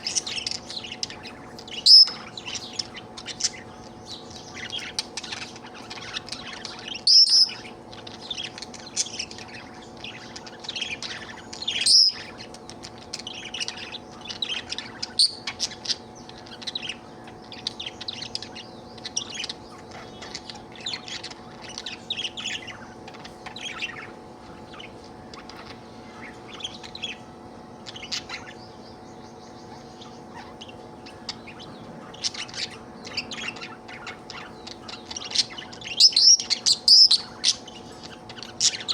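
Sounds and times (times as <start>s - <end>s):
budgerigar warbling and chirping: 0.0s - 38.9s.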